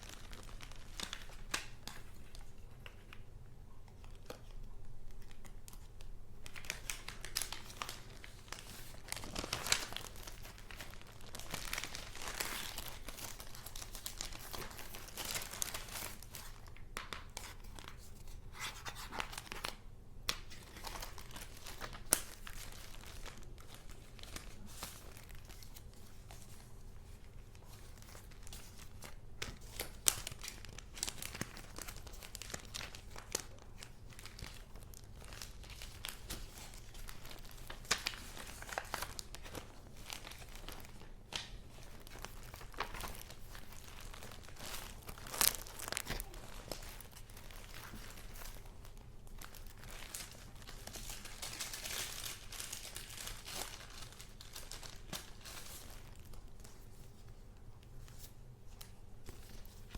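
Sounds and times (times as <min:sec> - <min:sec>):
paper crinkling and rustling: 0:00.0 - 0:59.9.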